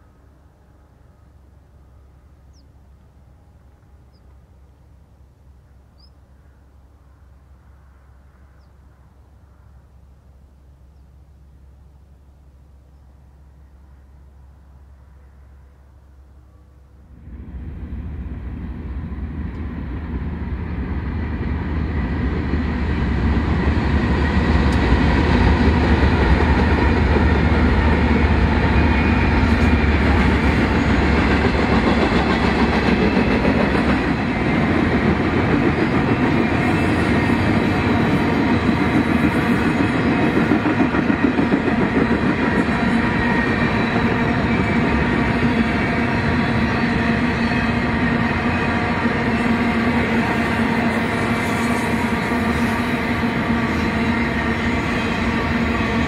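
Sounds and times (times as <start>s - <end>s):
train rolling past: 0.0s - 56.0s.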